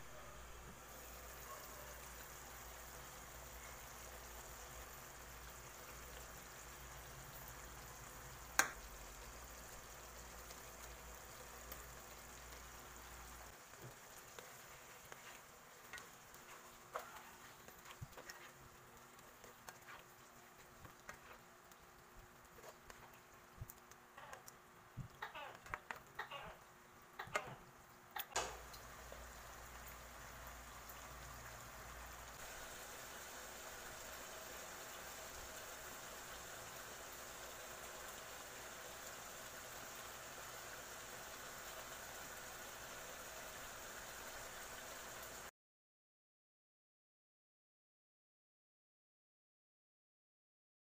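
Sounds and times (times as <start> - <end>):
food simmering in a wok: 0.0 - 45.5
sauce sizzling and bubbling: 0.0 - 45.5.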